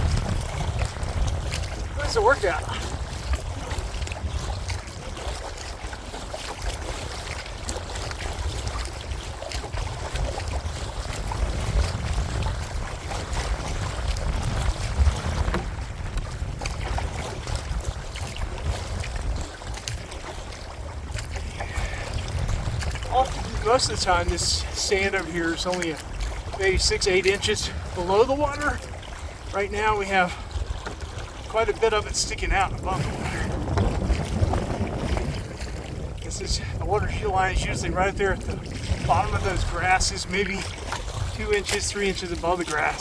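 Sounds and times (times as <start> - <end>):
paddle splashing in water: 0.0 - 43.0
wind buffeting microphone: 0.0 - 43.0.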